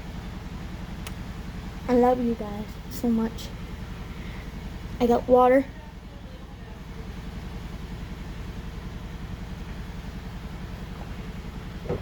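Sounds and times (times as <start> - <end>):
low pulsing mechanical rumble: 0.0 - 12.0.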